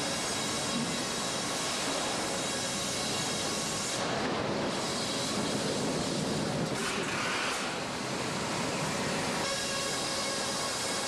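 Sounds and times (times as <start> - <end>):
sawmill machinery din: 0.0 - 11.0.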